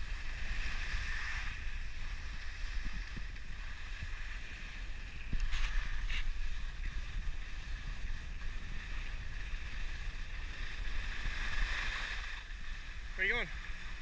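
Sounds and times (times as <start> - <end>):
skis scraping on snow: 0.0 - 14.0
wind buffeting microphone: 0.0 - 14.0.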